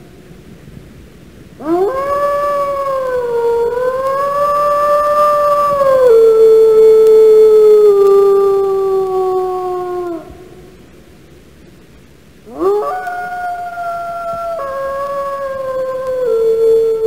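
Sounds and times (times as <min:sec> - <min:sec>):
wolf howling: 0:01.6 - 0:10.8, 0:12.5 - 0:17.0.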